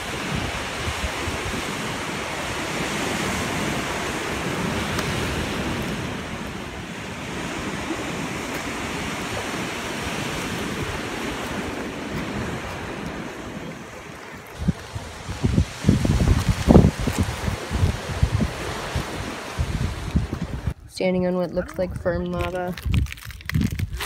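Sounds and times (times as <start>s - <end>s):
ocean surf breaking on rocks: 0.0s - 20.8s
wind buffeting microphone: 0.0s - 24.0s.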